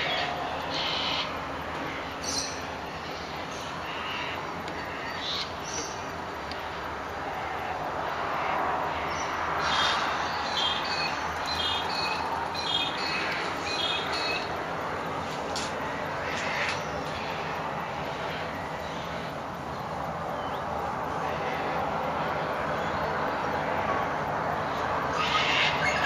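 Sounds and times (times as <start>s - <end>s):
birds chirping: 0.0s - 21.6s, 24.6s - 26.0s.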